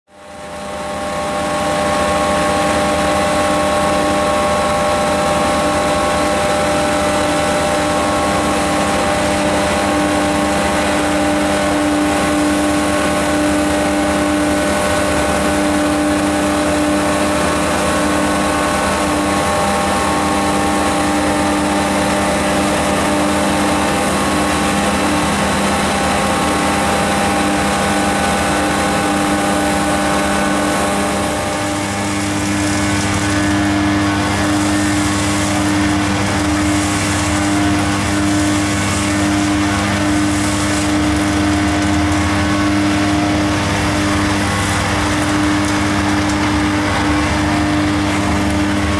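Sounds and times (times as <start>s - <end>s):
truck engine and suction blower droning: 0.1s - 48.9s.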